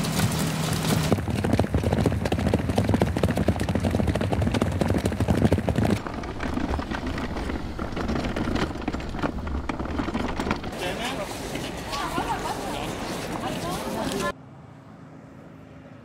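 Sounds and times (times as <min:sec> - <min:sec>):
horse hooves clip-clopping: 0:00.0 - 0:14.3.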